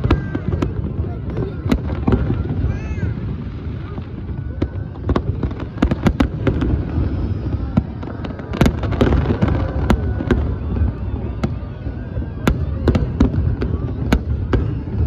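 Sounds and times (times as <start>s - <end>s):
fireworks bangs and pops: 0.0s - 15.0s
low rumble of fireworks: 0.0s - 15.0s.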